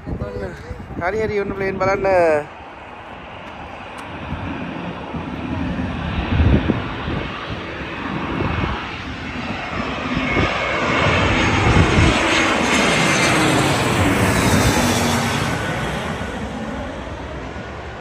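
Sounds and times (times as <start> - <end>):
jet airliner flying overhead: 0.0 - 18.0.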